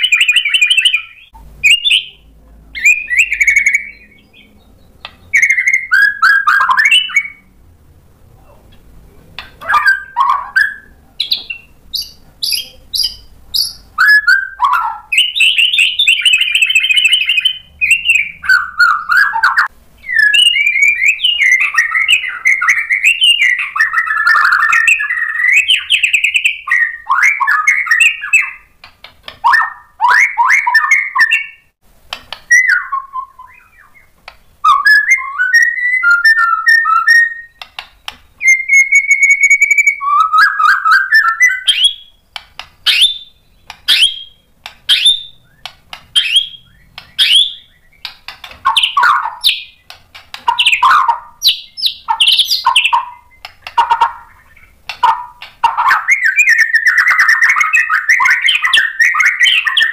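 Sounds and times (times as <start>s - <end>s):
songbird whistling and trilling: 0.0s - 2.2s, 2.8s - 7.5s, 9.6s - 31.7s, 32.4s - 59.9s.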